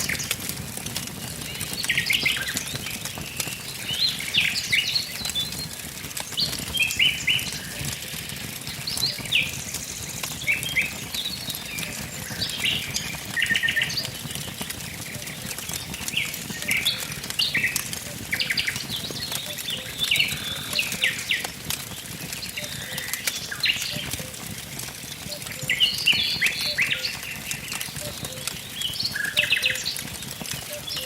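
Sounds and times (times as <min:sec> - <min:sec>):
small birds chirping and trilling: 0:00.0 - 0:31.0
wood fire crackling and popping: 0:00.0 - 0:31.0.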